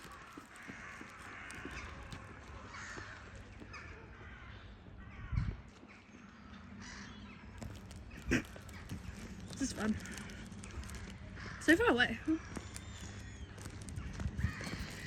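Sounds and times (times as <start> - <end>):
distant crows cawing: 0.0 - 15.0.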